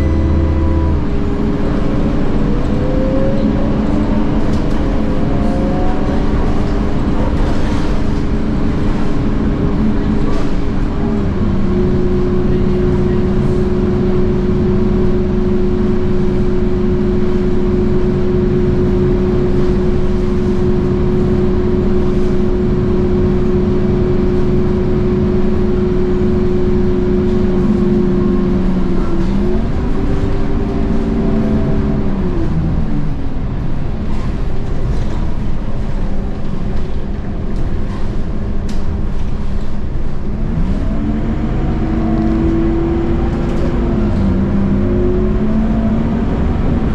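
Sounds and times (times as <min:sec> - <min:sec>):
bus diesel engine revving: 0:00.0 - 0:46.9
road noise: 0:00.0 - 0:46.9.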